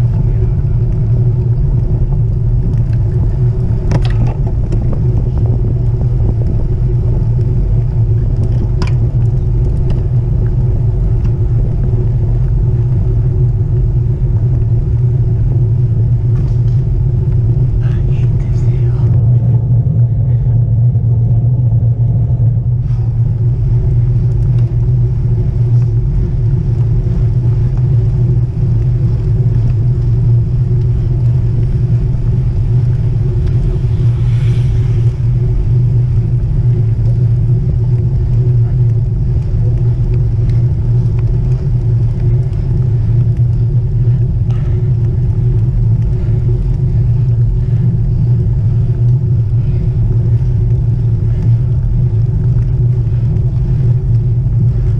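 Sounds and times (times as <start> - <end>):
bicycle road noise: 0.0 - 54.9
wind buffeting microphone: 0.0 - 54.9.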